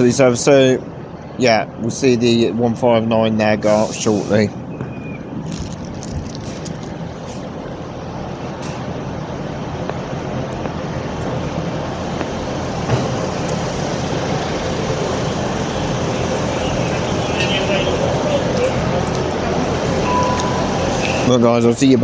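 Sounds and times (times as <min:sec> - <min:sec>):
diesel train engines rumbling: 0:00.0 - 0:22.0.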